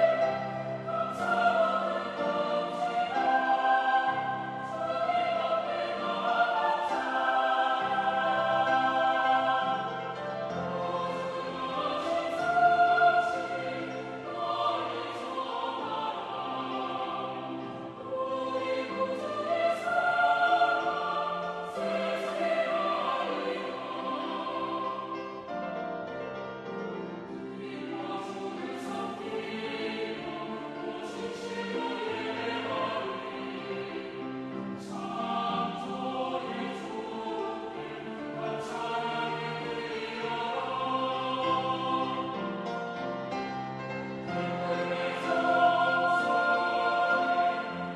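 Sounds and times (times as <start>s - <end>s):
church choir singing in harmony: 0.0s - 47.9s.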